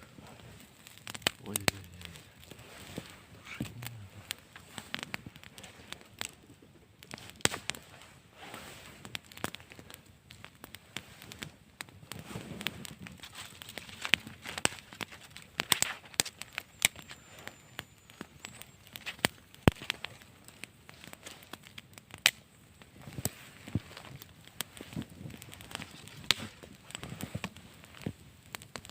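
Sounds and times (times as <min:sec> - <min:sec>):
sharp pops of burning wood: 0:00.0 - 0:28.9
wood fire crackling: 0:00.0 - 0:28.9.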